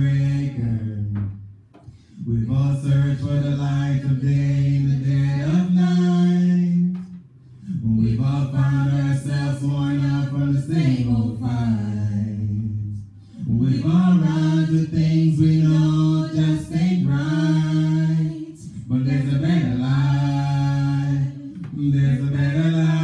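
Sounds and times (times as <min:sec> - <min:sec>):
unaccompanied worship singing: 0:00.0 - 0:23.0.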